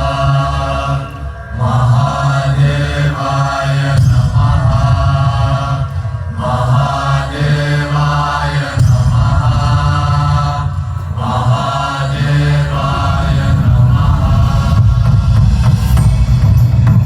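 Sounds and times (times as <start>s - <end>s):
devotional chanting: 0.0s - 17.0s
low drone: 0.0s - 17.0s.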